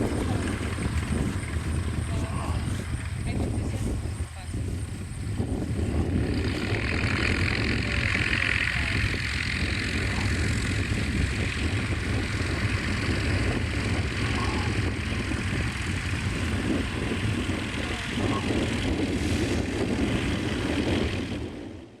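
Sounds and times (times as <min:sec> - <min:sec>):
propeller plane engine running: 0:00.0 - 0:22.0.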